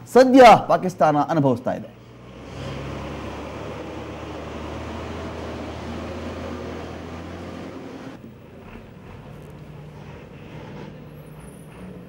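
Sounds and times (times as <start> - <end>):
road noise: 1.3 - 12.0
truck engine drone: 1.9 - 12.0.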